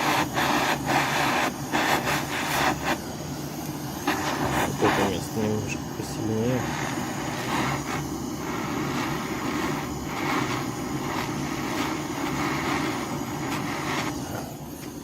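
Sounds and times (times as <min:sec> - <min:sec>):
gas torch flame roaring: 0:00.0 - 0:15.0.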